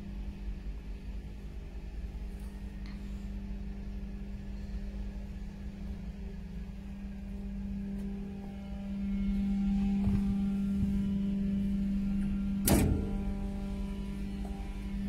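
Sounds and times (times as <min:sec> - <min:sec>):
low rumble: 0:00.0 - 0:15.0
steady mechanical hum: 0:00.0 - 0:15.0.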